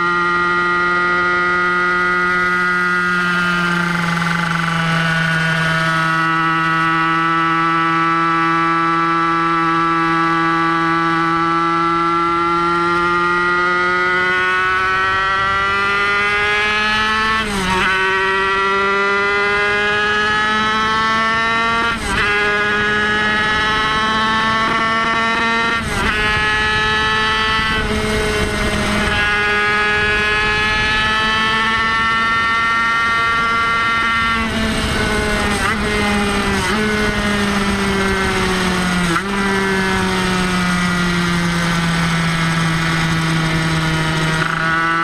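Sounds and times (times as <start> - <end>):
two-stroke motorcycle engine revving: 0.0 - 45.0.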